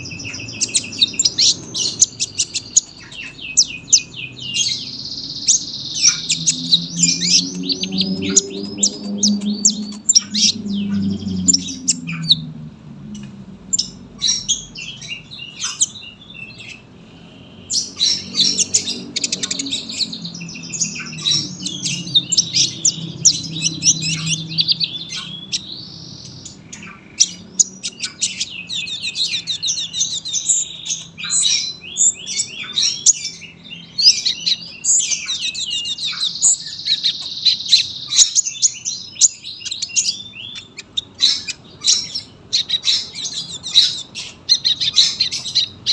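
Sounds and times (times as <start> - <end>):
bird chirping trills: 0.0 - 45.9.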